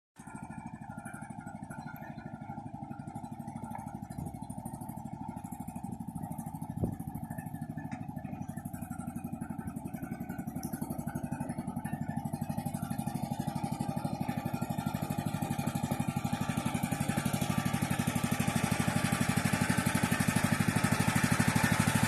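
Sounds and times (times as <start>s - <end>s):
tractor engine idling: 0.2s - 22.0s.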